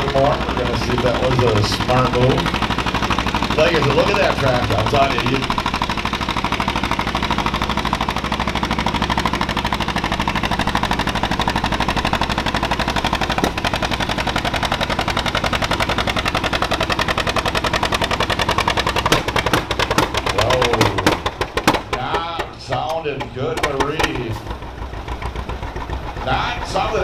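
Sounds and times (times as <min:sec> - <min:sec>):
tractor engine popping: 0:00.0 - 0:27.0
tractor engine under load: 0:00.0 - 0:27.0.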